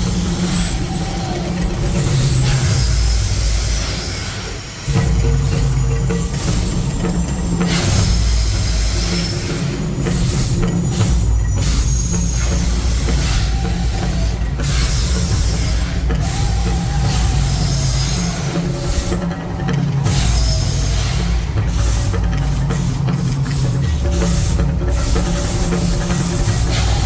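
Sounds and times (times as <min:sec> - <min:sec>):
deep steady rumble: 0:00.0 - 0:27.0
loud hissing whooshes: 0:00.0 - 0:27.0.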